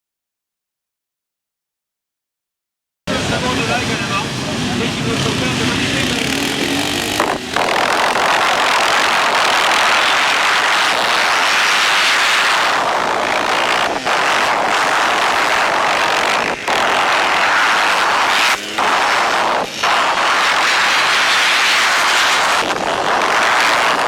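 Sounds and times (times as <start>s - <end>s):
motocross motorcycle engines: 3.1s - 24.0s.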